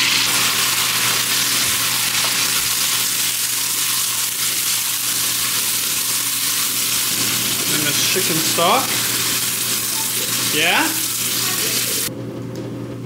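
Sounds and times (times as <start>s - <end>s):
meat sizzling in hot oil: 0.0s - 12.1s.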